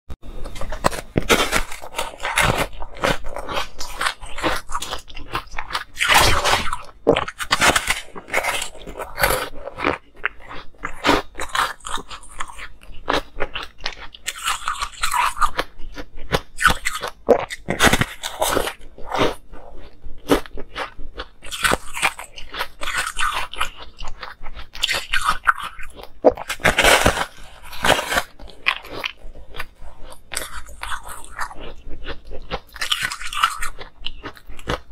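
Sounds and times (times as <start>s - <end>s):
person chewing ice: 0.2s - 34.9s.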